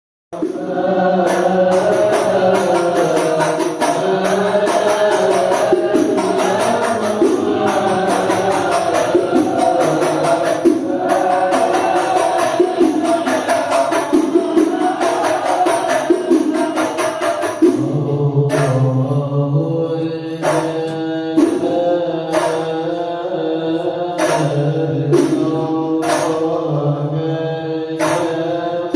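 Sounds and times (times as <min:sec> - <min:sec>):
frame drum percussion: 0:00.4 - 0:19.3, 0:20.3 - 0:22.9, 0:24.2 - 0:26.7, 0:28.0 - 0:28.9
voices chanting a devotional song: 0:00.4 - 0:28.9.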